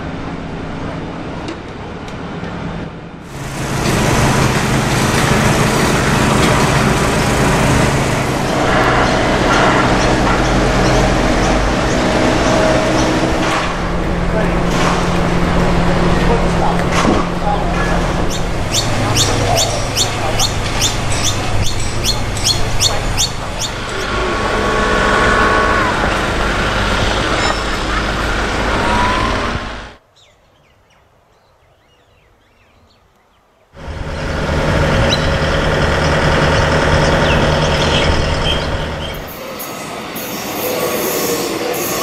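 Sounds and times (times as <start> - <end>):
construction machinery running: 3.2 - 30.0, 33.8 - 42.0.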